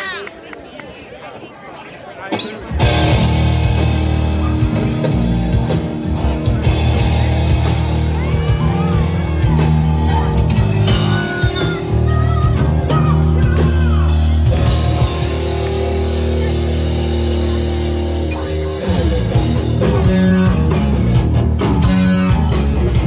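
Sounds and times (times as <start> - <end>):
rock band playing: 2.5 - 23.0
bending lead guitar: 2.6 - 23.0
steady drum beat: 2.7 - 23.0.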